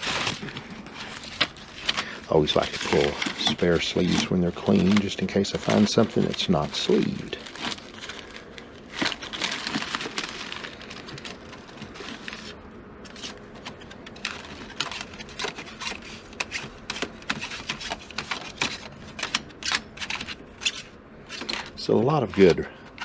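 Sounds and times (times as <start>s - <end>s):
paper and plastic sleeves crinkling: 0.0s - 23.0s.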